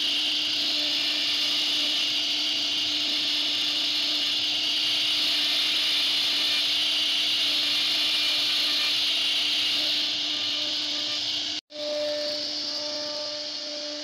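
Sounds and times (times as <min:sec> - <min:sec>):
router cutter hissing in wood: 0:00.0 - 0:14.0
spindle hum: 0:00.0 - 0:14.0.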